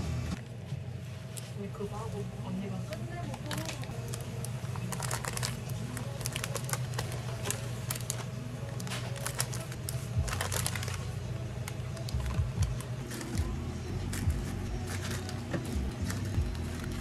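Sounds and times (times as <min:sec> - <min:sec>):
steady low hum: 0:00.0 - 0:17.0
paper and plastic film rustling: 0:02.0 - 0:17.0.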